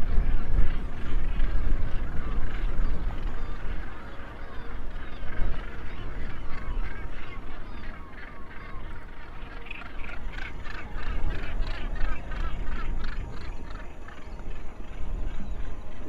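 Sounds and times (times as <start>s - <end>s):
low rumble: 0.0s - 16.0s
seabirds calling harshly: 0.0s - 16.0s.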